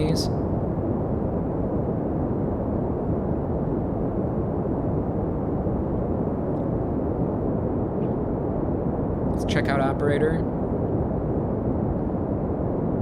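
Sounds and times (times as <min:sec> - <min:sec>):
dark filtered white noise rumble: 0:00.0 - 0:13.0.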